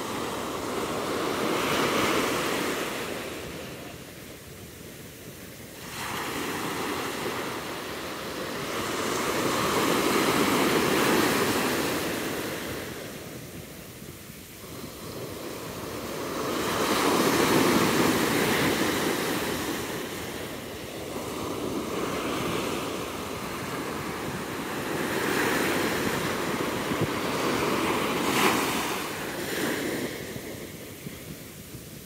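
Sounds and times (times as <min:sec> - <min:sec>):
waves breaking on sandy beach: 0:00.0 - 0:32.0.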